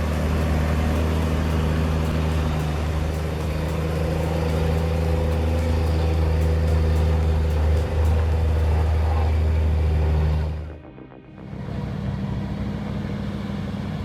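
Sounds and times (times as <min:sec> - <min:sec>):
large diesel engine running: 0:00.0 - 0:14.0.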